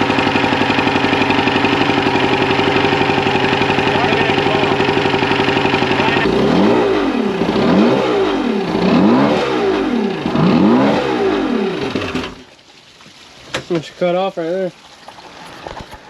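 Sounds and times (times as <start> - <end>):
outboard engine surging: 0.0 - 12.5, 14.9 - 16.0.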